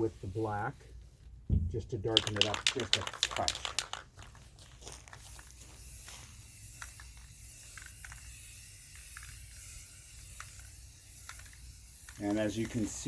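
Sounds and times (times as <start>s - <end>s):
spray paint can hissing: 2.1s - 13.0s.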